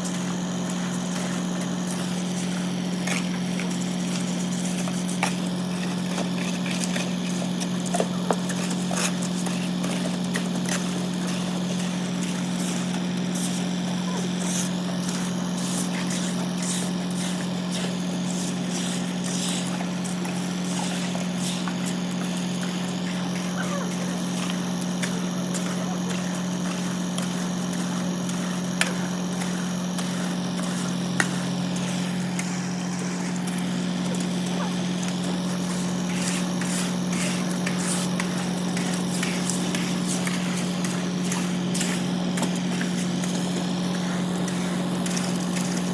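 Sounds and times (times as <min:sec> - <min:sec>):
machine engine droning: 0:00.0 - 0:45.9.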